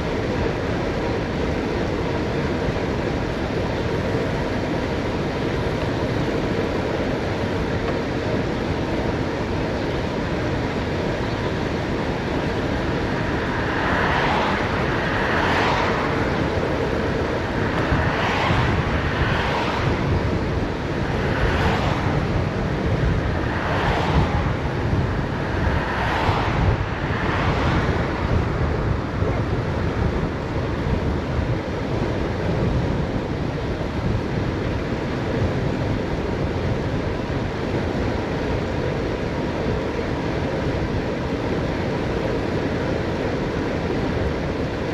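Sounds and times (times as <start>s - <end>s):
wind roaring over microphone: 0.0s - 44.9s.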